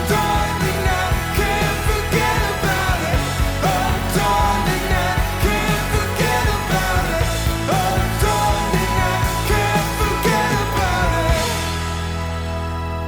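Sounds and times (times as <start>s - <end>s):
pop-rock song with steady beat: 0.0s - 13.0s.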